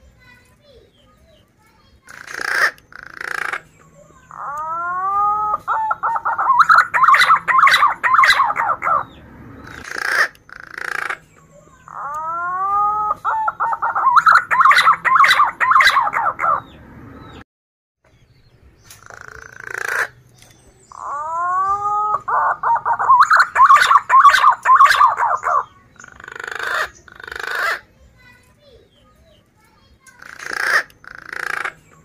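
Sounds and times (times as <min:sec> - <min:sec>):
pigeon singing warbling song: 0:00.6 - 0:17.4, 0:18.2 - 0:32.0
short harsh bird calls: 0:00.9 - 0:17.4, 0:18.8 - 0:32.0.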